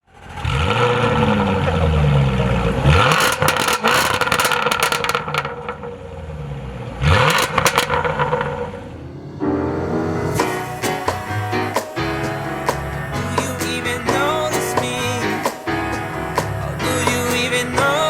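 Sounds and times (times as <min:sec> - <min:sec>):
car engine accelerating: 0:00.0 - 0:18.0
exhaust crackles: 0:00.1 - 0:18.0.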